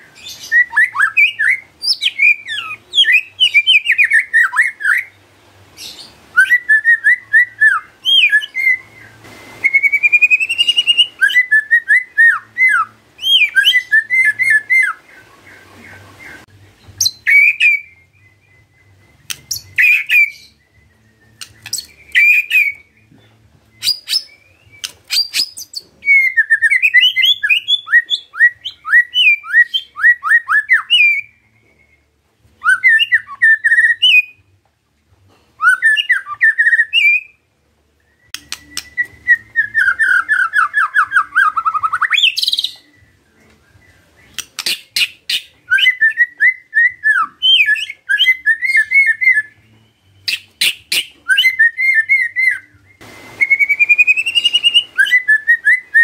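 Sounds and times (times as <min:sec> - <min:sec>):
bird singing whistles and chatter: 0:00.0 - 0:05.2, 0:05.8 - 0:34.5, 0:35.6 - 0:37.4, 0:38.0 - 0:56.0.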